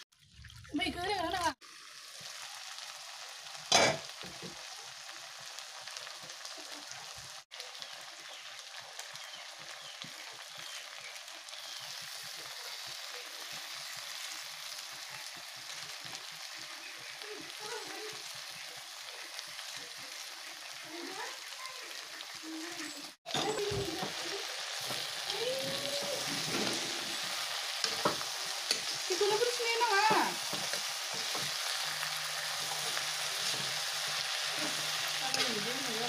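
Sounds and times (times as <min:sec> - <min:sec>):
vegetables sizzling in a wok: 0:00.6 - 0:36.0.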